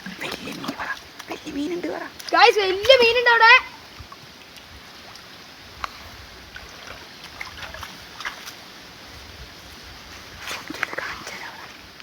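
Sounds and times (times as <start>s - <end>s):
small splashes: 0.0s - 11.9s
pond water sloshing: 0.0s - 12.0s.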